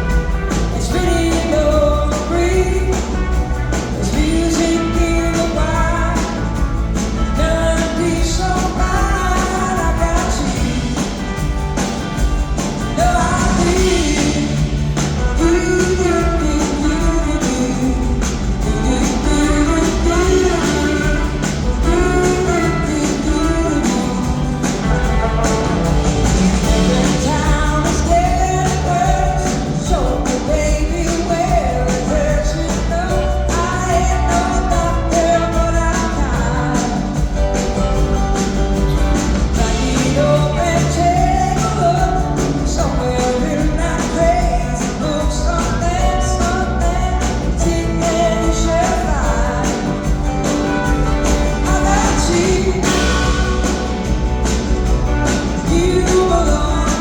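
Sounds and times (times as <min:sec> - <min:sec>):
person singing lead vocals: 0:00.0 - 0:11.6, 0:12.6 - 0:57.0
live rock band playing: 0:00.0 - 0:57.0.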